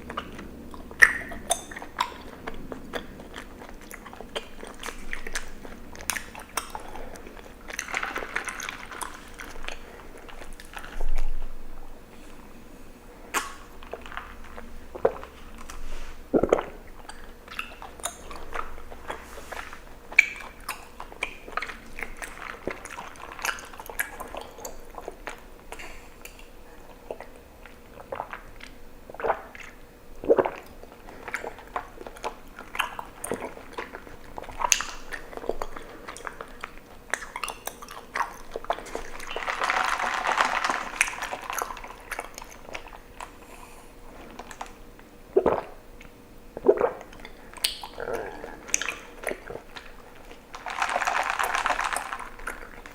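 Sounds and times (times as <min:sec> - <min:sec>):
wet chewing mouth sounds: 0:00.0 - 0:52.9.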